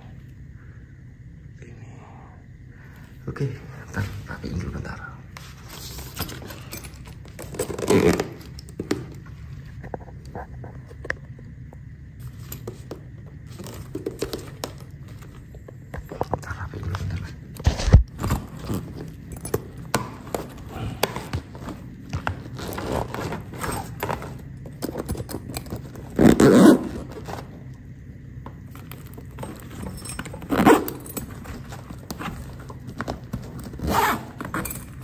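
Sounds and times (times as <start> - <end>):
bag handling noise: 5.4 - 11.5, 12.2 - 35.0.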